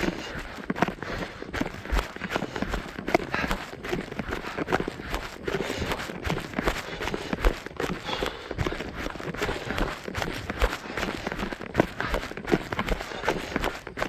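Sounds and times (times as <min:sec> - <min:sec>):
running footsteps on trail: 0:00.0 - 0:14.0.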